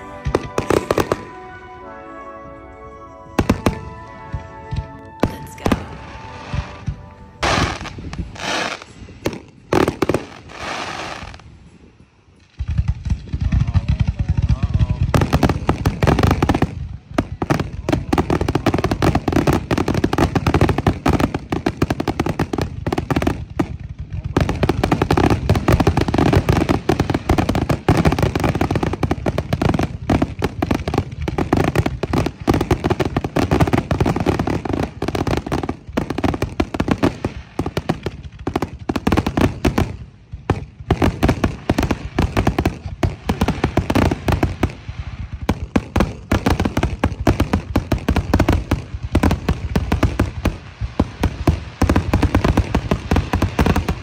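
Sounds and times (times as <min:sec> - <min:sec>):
firework shells bursting and crackling: 0:00.0 - 0:01.6, 0:03.4 - 0:54.0.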